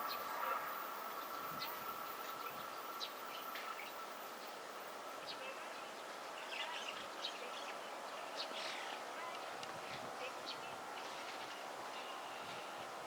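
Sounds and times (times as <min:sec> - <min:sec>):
faint birds chirping: 0:00.0 - 0:13.0
faint outdoor background noise: 0:00.0 - 0:13.0.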